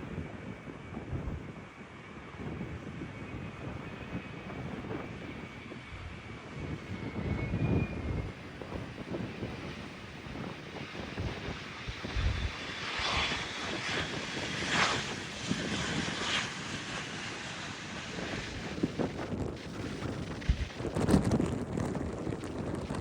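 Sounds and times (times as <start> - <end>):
aircraft engines: 0.0 - 23.0
wind buffeting microphone: 0.0 - 23.0.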